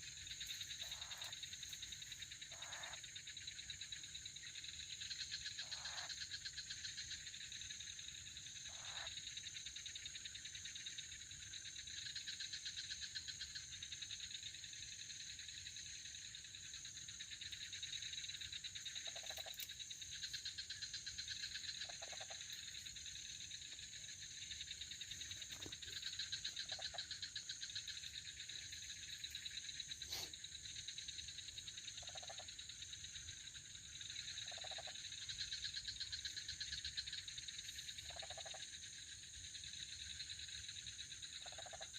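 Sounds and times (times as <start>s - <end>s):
frog calls: 0.0s - 41.9s
insects trilling: 0.0s - 41.9s.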